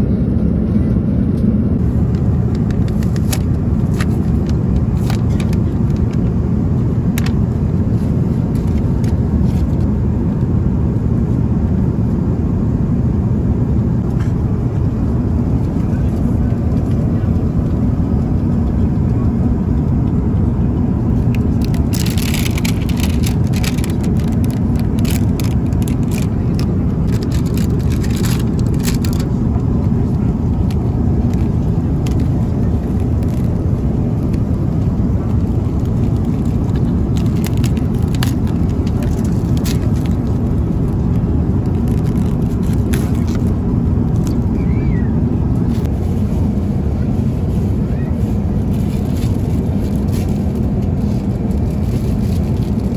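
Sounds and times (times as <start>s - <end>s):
airplane cabin noise: 0.0s - 52.9s.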